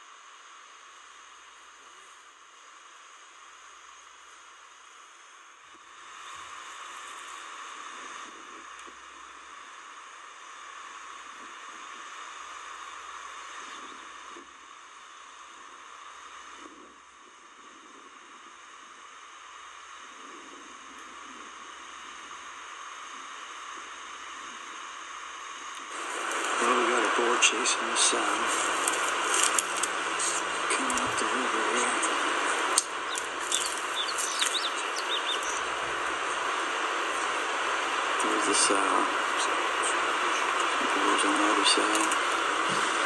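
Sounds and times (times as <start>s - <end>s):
faint outdoor hiss: 0.0s - 43.0s.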